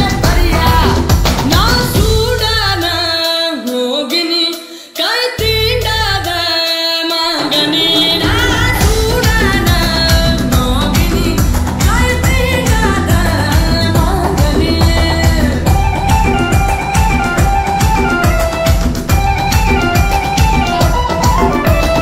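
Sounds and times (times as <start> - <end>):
heavy drum and bass beat: 0.0 - 3.8, 5.4 - 22.0
woman singing: 0.0 - 18.4.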